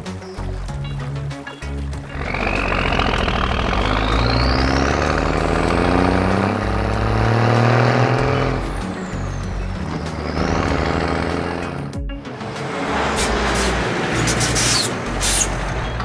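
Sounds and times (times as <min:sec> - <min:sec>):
vehicle engine revving with whine: 0:00.0 - 0:16.0.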